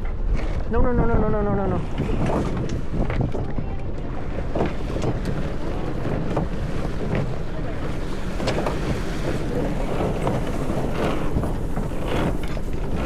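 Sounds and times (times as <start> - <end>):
waves washing: 0.0 - 13.0
wind buffeting microphone: 0.0 - 13.0.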